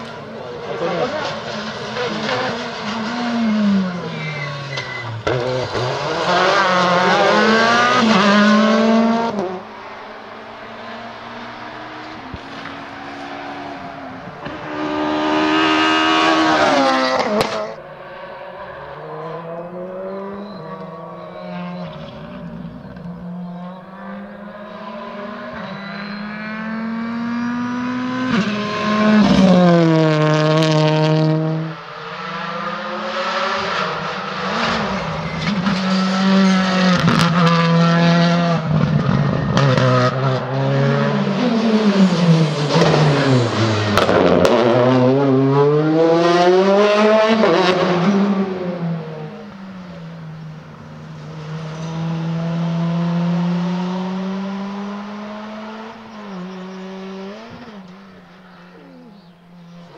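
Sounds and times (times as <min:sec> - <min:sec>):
cars passing close: 0:00.0 - 0:59.9
rally car engines revving: 0:00.0 - 0:59.9.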